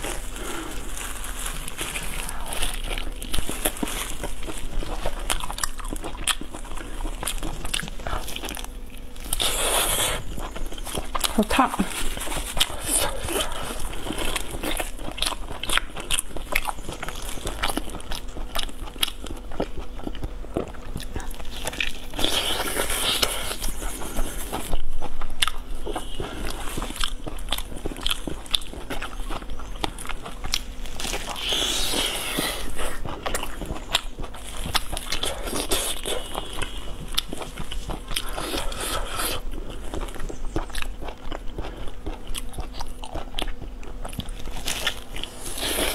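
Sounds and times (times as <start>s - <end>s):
mouth chewing meat: 0.0s - 45.9s.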